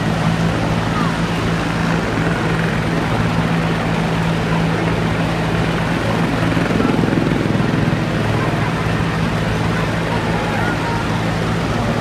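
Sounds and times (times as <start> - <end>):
helicopter engine drone: 0.0 - 12.0.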